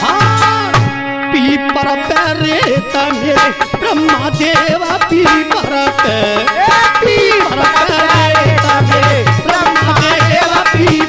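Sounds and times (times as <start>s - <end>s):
steady drum rhythm: 0.0s - 1.0s, 1.7s - 11.0s
keyboard lead melody: 0.0s - 11.0s.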